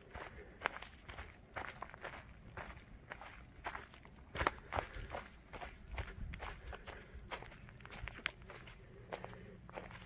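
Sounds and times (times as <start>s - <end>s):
footsteps on dry leaves: 0.0s - 10.0s.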